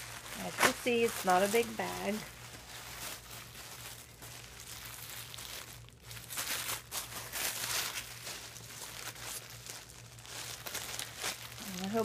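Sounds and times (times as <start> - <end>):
tissue paper rustling: 0.0 - 12.0.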